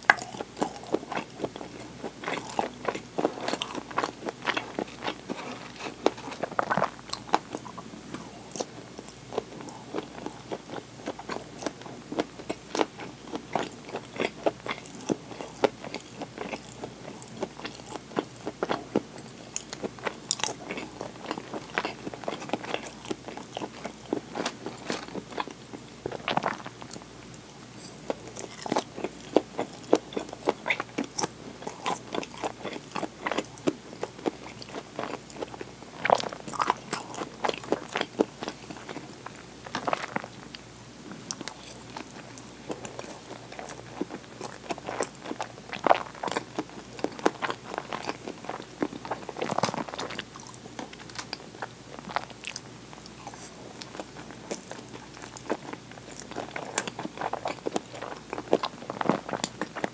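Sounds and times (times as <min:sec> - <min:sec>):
person chewing crunchy fried chicken: 0:00.0 - 0:59.9.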